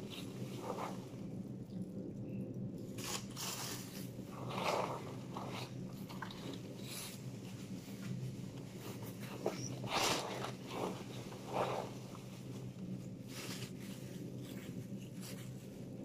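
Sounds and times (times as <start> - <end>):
low steady hum: 0.0 - 16.0
plastic bag and paper rustling: 3.0 - 16.0.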